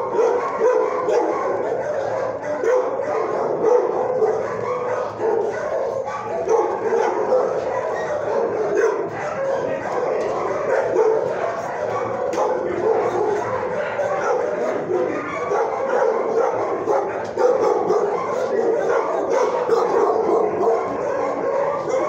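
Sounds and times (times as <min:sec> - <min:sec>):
many dogs barking and yipping: 0:00.0 - 0:22.0.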